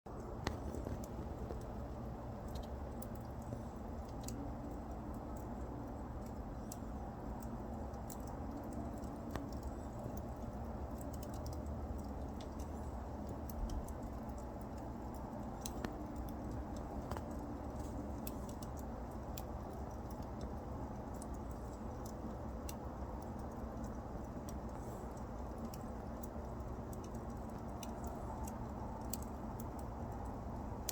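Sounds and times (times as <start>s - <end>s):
fire crackles and pops: 0.1s - 30.9s
wood fire rumble: 0.1s - 30.9s.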